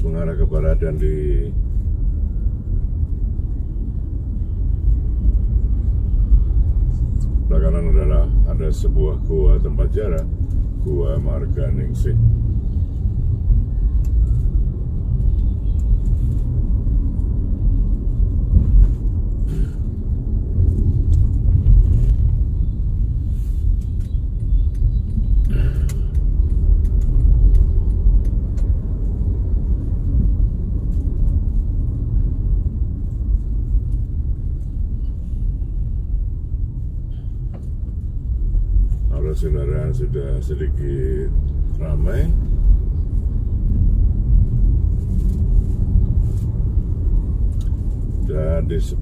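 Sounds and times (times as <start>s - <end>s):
vehicle engine and tyre rumble: 0.0s - 49.0s.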